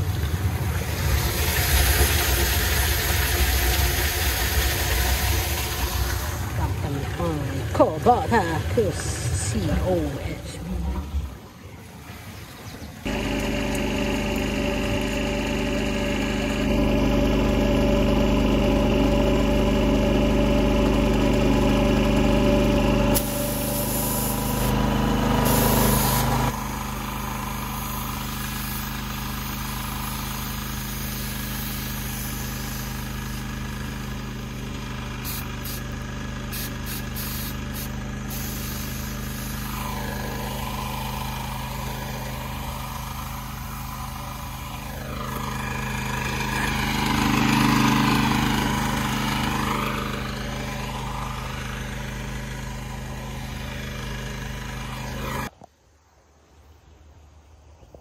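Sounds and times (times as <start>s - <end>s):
farm machinery engine running: 0.0s - 55.5s.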